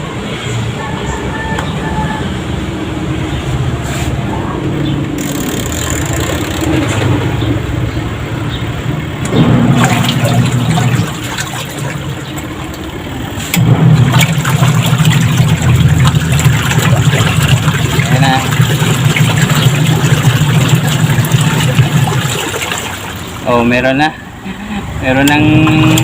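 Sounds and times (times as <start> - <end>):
washing machine motor churning water: 2.7 - 24.4, 25.0 - 26.0.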